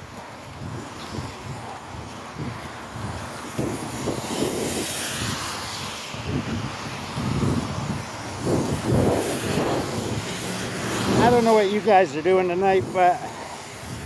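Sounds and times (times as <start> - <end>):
traffic on wet road: 0.0 - 14.0
wind buffeting microphone: 0.0 - 14.0.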